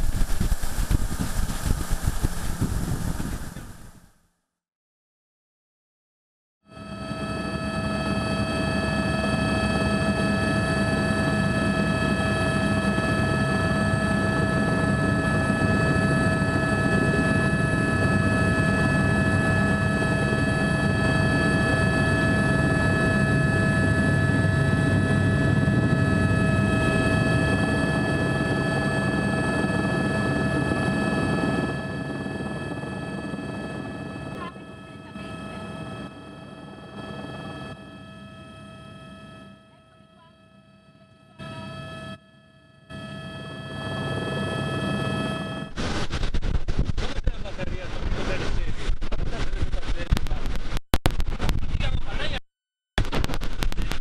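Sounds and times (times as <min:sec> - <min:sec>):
helicopter running: 0:00.0 - 0:04.0, 0:06.7 - 0:52.4.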